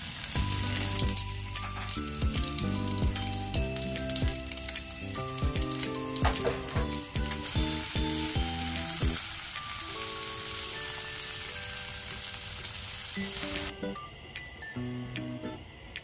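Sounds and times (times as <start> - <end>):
pancakes sizzling in a pan: 0.0 - 13.7
background music: 0.4 - 16.0.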